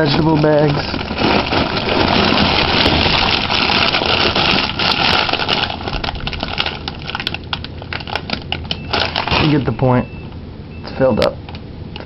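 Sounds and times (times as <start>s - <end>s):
plastic bags rustling: 0.0s - 10.0s
steady low hum: 0.0s - 12.0s.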